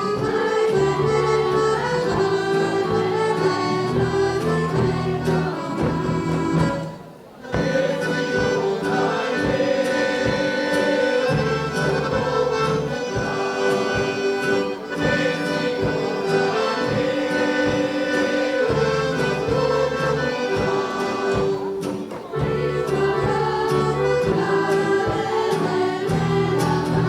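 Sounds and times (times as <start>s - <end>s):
accordion folk dance music: 0.0s - 27.0s.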